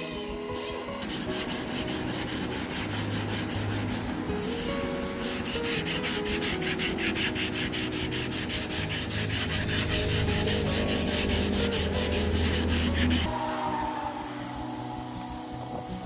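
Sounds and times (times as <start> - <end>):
sanding block wet-sanding: 0.0 - 16.0.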